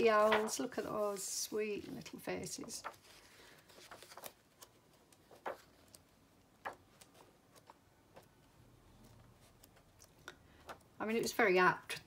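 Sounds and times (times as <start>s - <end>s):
book pages turning: 0.0s - 10.9s.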